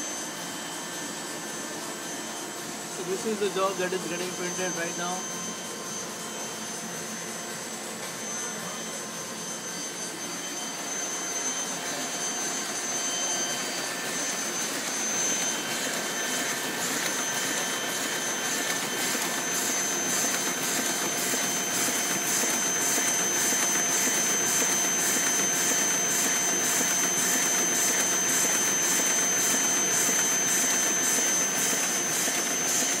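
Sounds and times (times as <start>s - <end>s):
printing press whirring and clattering: 0.0s - 33.0s.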